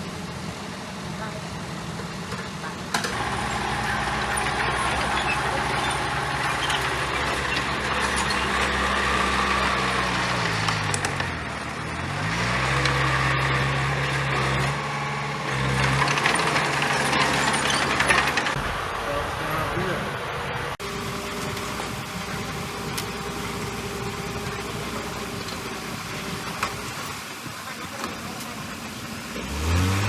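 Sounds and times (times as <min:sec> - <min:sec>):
heavy diesel engine under load: 0:00.0 - 0:30.0.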